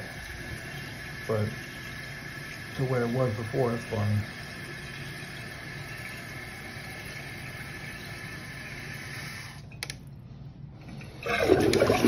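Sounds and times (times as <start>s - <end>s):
toilet flush water rushing: 0.0s - 9.6s, 11.0s - 12.0s
toilet fill valve hissing: 0.0s - 9.7s, 10.9s - 12.0s.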